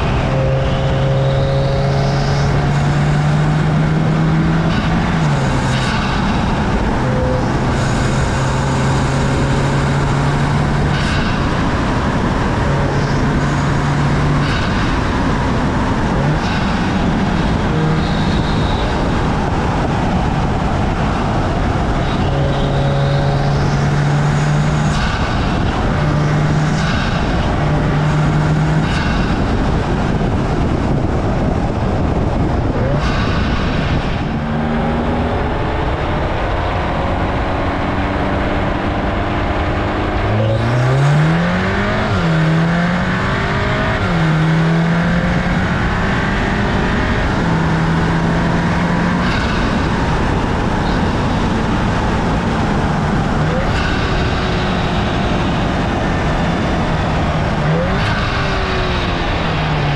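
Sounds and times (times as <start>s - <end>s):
low engine drone: 0.0s - 59.9s
tyre noise on road: 0.0s - 59.9s
wind noise: 0.0s - 59.9s.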